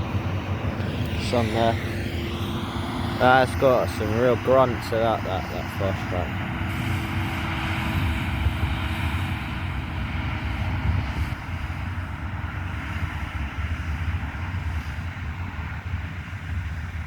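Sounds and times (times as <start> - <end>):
tractor engine working hard: 0.0 - 17.0.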